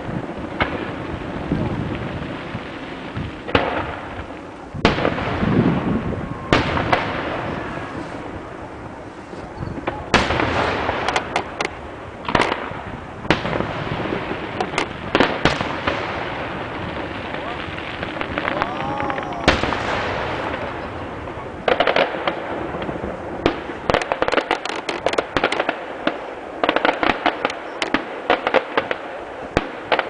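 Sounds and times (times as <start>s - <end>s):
distant fireworks bangs: 0.0s - 30.0s.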